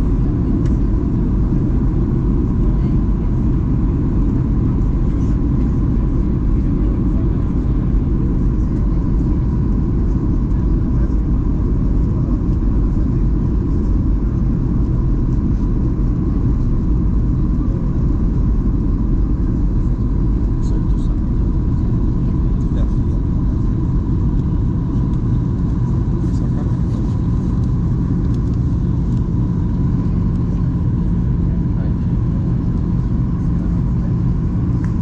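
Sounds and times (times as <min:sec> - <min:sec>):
aircraft cabin engine rumble: 0:00.0 - 0:35.0
faint steady whine: 0:00.0 - 0:35.0.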